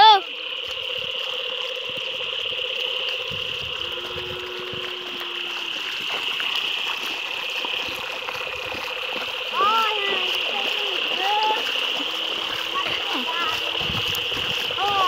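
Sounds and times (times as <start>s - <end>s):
feet and hooves splashing in water: 0.0s - 15.0s
high-pitched chorus: 1.4s - 15.0s.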